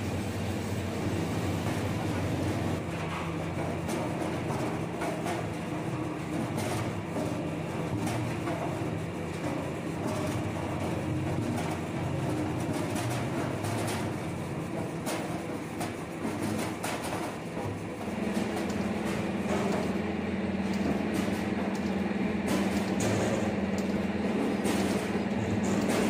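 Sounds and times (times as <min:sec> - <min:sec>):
machine motor humming: 0:00.0 - 0:16.5, 0:17.4 - 0:26.0.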